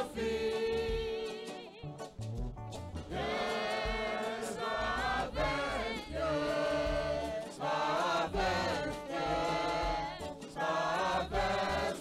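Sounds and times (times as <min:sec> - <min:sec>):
congregation singing a hymn: 0:00.0 - 0:01.7, 0:03.1 - 0:12.0.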